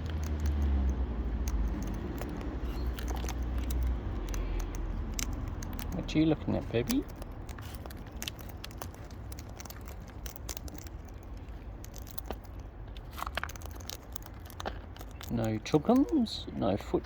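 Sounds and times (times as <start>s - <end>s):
parrots cracking seeds with beaks: 0.0s - 16.3s.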